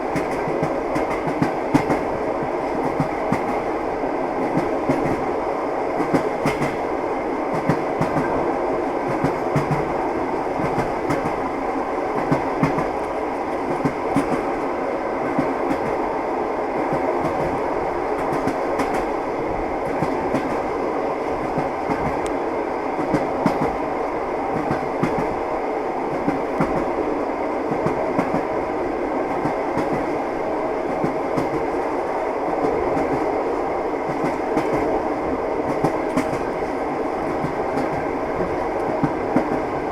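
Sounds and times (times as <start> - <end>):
train wheels clattering on rails: 0.0 - 3.8, 4.4 - 16.0, 16.8 - 22.4, 23.0 - 23.9, 24.5 - 25.5, 26.1 - 27.0, 27.7 - 28.6, 29.2 - 35.0, 35.6 - 39.9.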